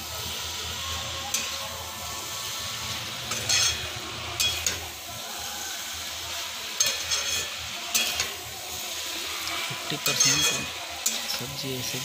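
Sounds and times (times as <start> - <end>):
steady sizzle of frying: 0.0 - 12.0
spatula scraping frying pan: 0.8 - 12.0.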